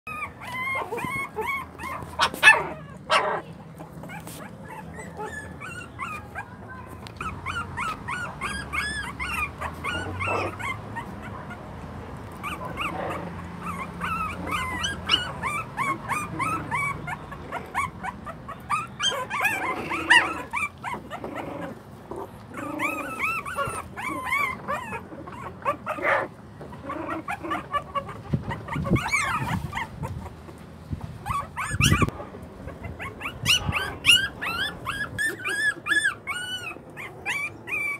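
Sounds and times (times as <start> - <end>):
puppies whimpering and yipping: 0.1 - 37.9.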